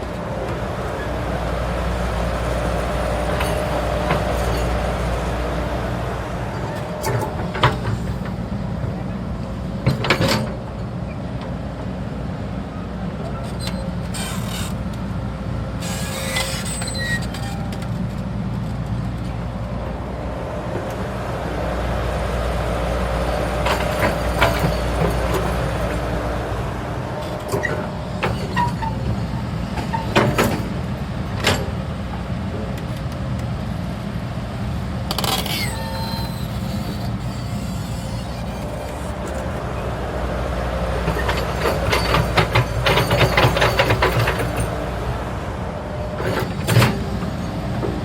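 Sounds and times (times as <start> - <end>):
heavy diesel machinery rumbling: 0.0 - 48.0.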